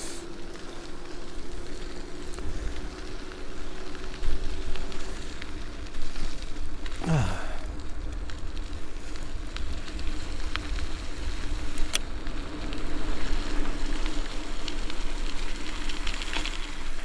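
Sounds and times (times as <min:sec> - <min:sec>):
small ticks: 0:00.0 - 0:07.0, 0:07.6 - 0:17.0
tyre noise with crackling hiss: 0:00.0 - 0:17.0
wind rumble on microphone: 0:00.4 - 0:17.0.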